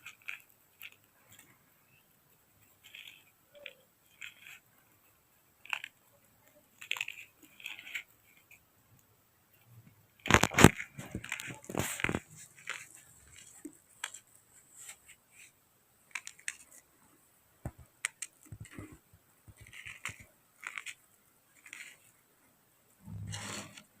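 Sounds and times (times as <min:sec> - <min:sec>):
chalk crunching: 0:00.0 - 0:08.6, 0:10.2 - 0:22.2, 0:23.1 - 0:24.0.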